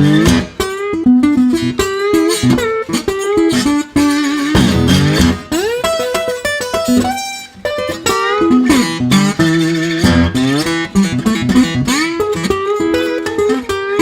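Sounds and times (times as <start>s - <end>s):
guitar tune with pitch bends: 0.0s - 14.0s.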